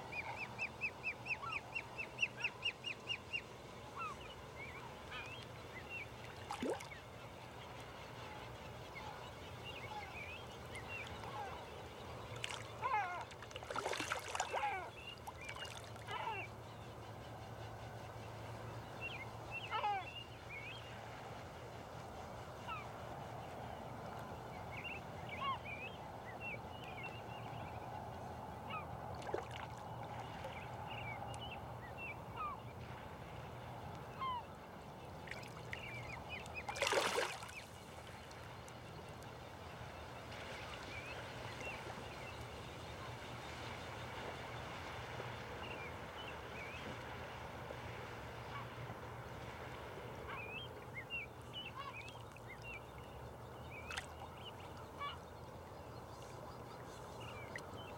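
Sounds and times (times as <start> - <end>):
low background hum: 0.0 - 57.9.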